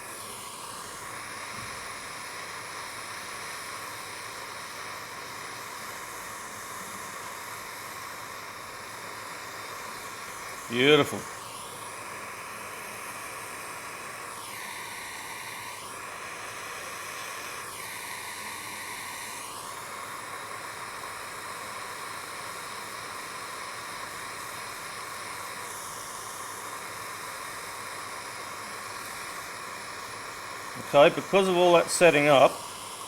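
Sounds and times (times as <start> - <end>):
gas torch flame hissing: 0.0 - 33.0.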